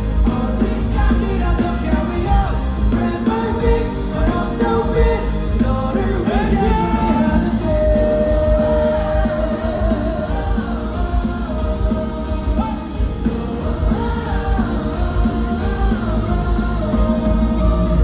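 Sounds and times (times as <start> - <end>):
live pop-rock band playing: 0.0 - 18.0.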